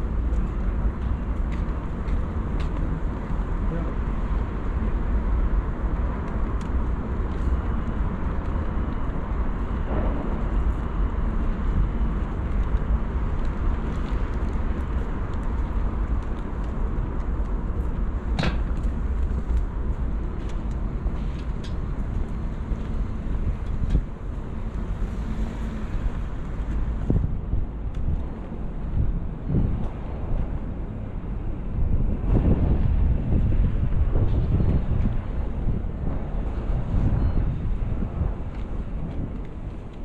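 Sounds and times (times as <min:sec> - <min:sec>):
city background rumble: 0:00.0 - 0:40.0.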